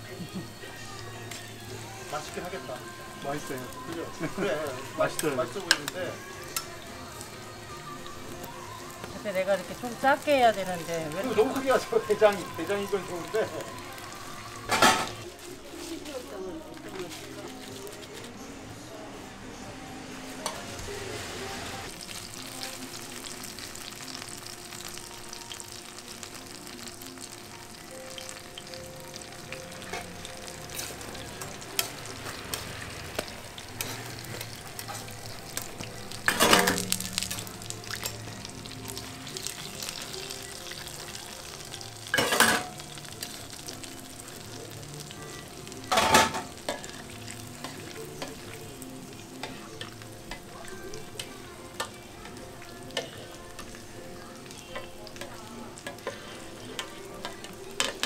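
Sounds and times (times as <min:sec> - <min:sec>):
food sizzling in oil: 0:00.0 - 0:19.0, 0:20.0 - 0:58.0.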